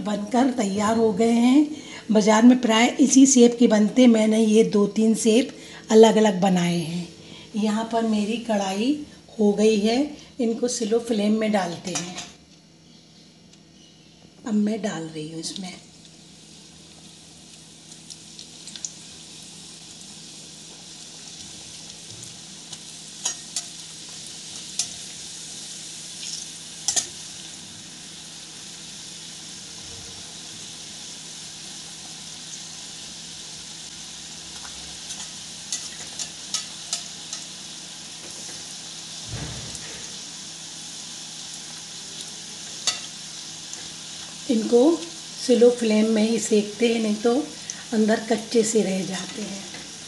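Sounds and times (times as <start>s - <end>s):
oil sizzling and bubbling: 0.0s - 50.0s.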